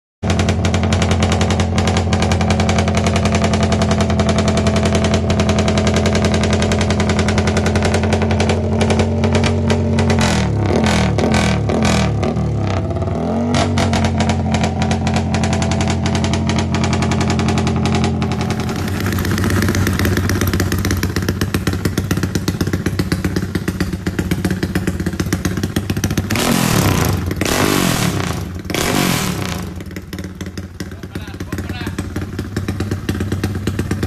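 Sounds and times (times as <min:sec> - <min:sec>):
motorcycle idling: 0:00.2 - 0:34.0
motorcycle throttle revving: 0:00.2 - 0:34.0.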